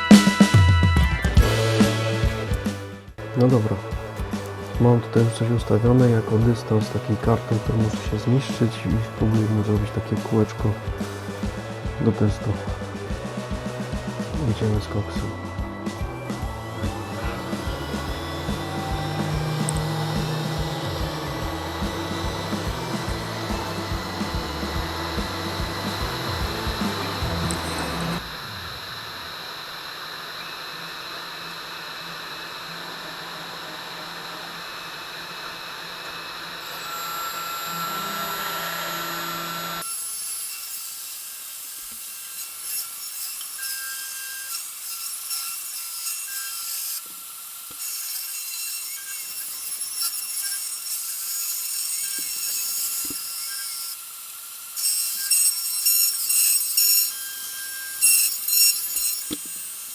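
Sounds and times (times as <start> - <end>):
cutter milling with whine: 0.0 - 59.9
router spindle running: 0.0 - 59.9.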